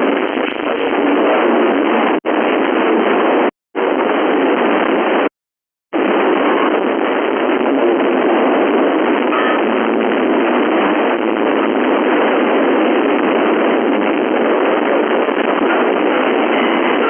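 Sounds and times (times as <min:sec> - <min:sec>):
radio static hiss: 0:00.0 - 0:05.3, 0:06.0 - 0:17.0.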